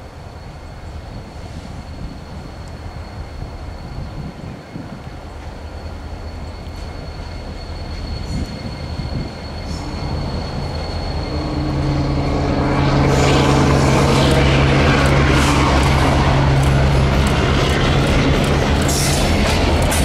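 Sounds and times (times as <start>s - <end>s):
locomotive engine drone: 0.0s - 20.0s
wheel and rail noise: 0.0s - 20.0s.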